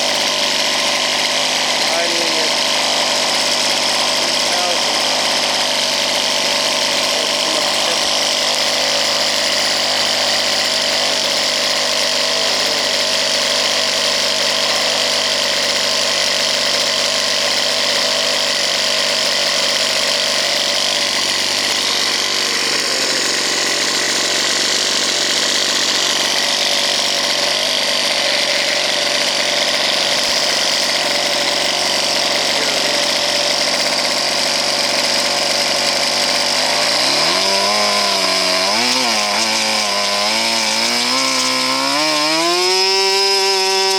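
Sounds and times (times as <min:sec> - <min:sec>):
two-stroke engine running: 0:00.0 - 0:43.9.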